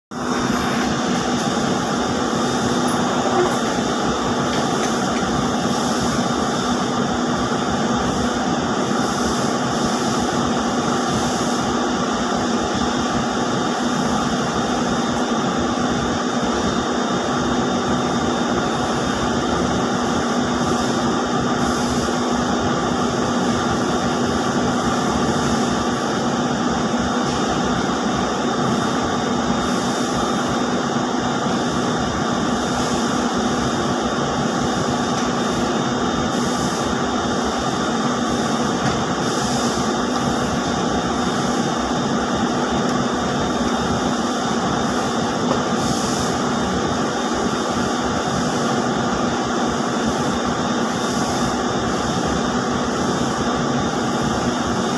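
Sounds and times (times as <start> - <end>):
spinning machines humming and whirring: 0.1 - 54.9.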